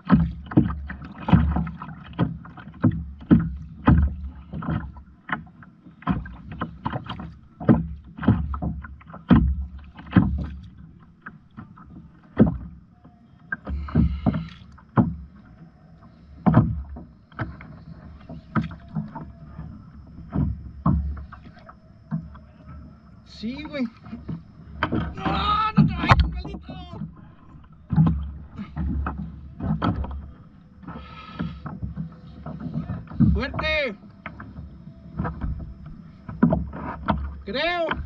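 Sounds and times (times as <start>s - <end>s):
water slapping against hull: 0.0s - 38.0s.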